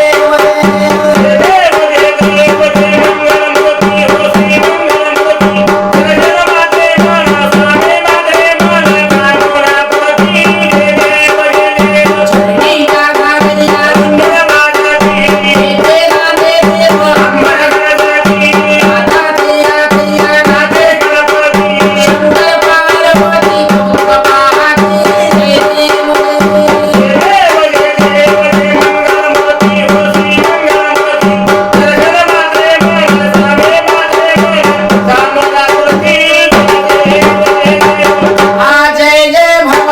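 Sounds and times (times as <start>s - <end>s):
stick-played drums beating: 0.0s - 39.9s.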